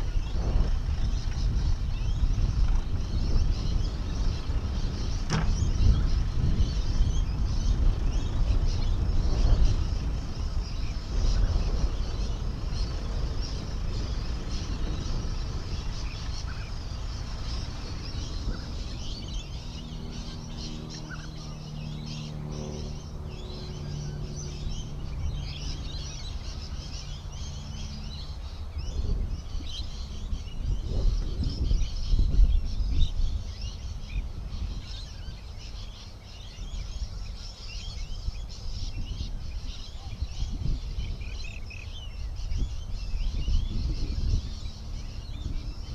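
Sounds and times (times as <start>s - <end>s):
engine hum: 0.0s - 45.9s
small birds chirping: 0.0s - 45.9s.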